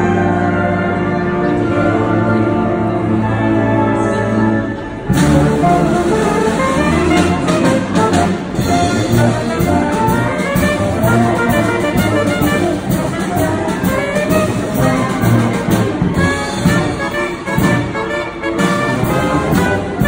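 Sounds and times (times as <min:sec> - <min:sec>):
wind band playing: 0:00.0 - 0:20.0.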